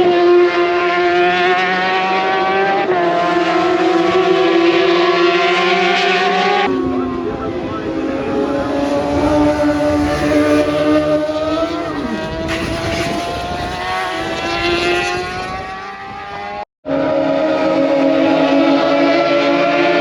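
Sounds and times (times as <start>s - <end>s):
motorcycles at high revs: 0.0s - 16.6s
motorcycle passing by: 3.4s - 20.0s.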